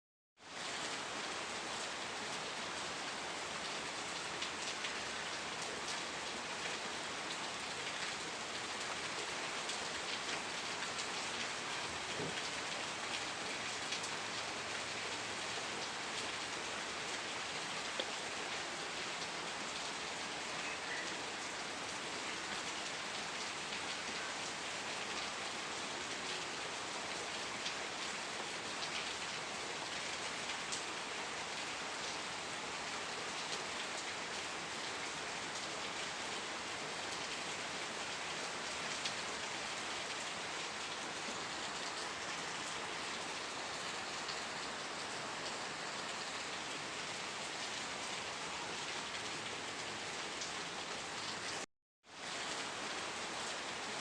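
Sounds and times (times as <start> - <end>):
steady rain falling: 0.4 - 54.0.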